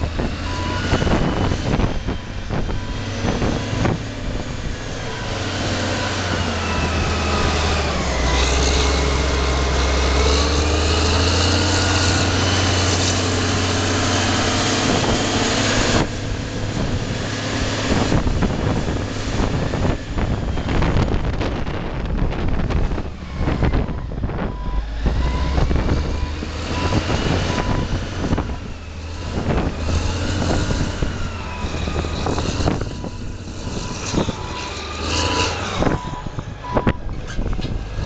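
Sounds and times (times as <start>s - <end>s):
diesel engine rumble: 0.0s - 38.0s.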